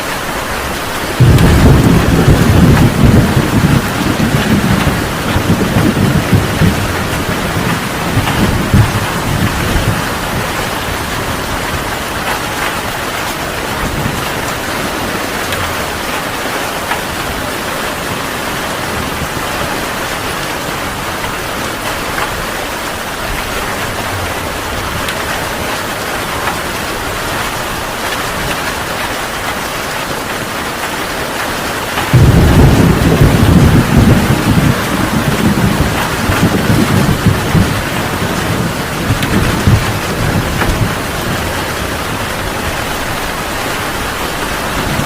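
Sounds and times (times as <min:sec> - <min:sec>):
heavy rain falling: 0:00.0 - 0:45.0
thunder rumbling: 0:00.2 - 0:29.1, 0:31.8 - 0:45.0.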